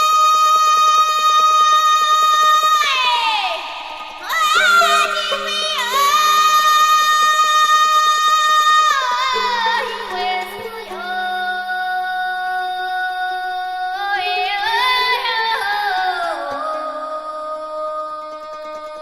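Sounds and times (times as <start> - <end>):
high solo voice singing: 0.0 - 19.0.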